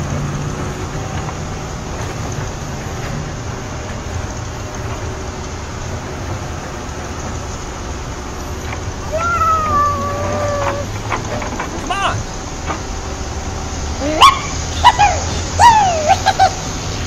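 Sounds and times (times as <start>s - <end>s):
low engine hum: 0.0s - 17.0s
rushing road traffic: 0.0s - 17.0s.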